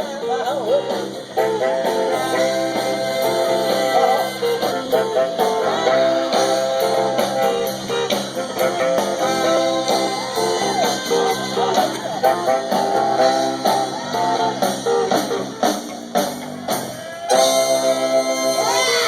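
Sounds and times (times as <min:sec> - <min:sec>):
guitar: 0:00.0 - 0:19.0
live blues band playing: 0:00.0 - 0:19.0
horn section: 0:00.2 - 0:19.0.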